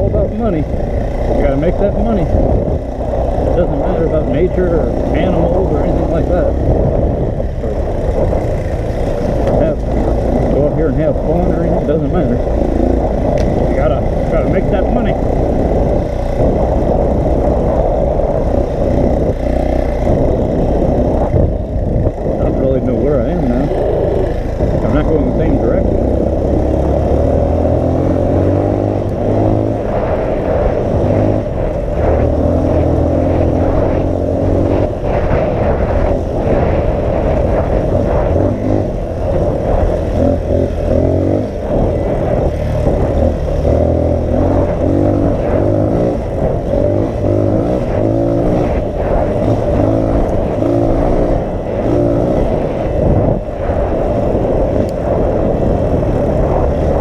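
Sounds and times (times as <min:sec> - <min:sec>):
dirt bike engine revving: 0:00.0 - 0:57.0
wind buffeting microphone: 0:00.0 - 0:57.0.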